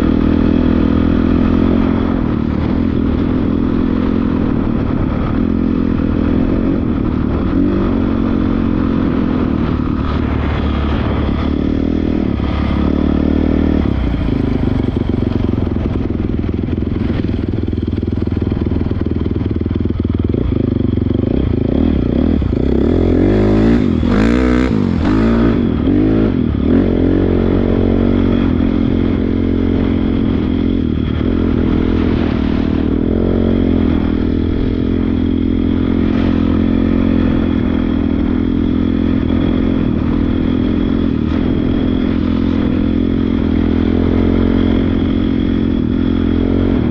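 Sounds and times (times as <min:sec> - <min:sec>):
dirt bike engine revving: 0:00.0 - 0:19.0, 0:20.2 - 0:46.9.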